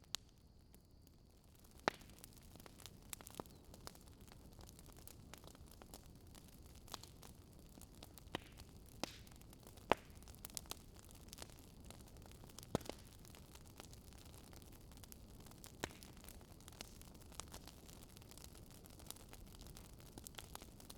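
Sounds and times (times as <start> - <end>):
burning logs crackling: 0.0 - 20.9
low steady fire hiss: 0.0 - 20.9.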